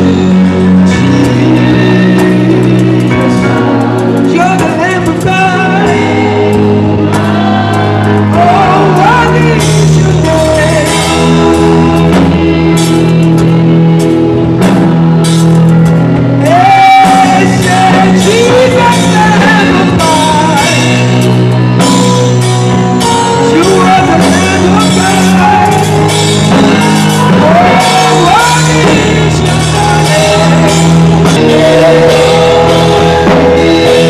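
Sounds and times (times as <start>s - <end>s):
gospel choir singing: 0.0s - 15.4s, 16.0s - 34.0s
live band playing: 0.0s - 34.0s.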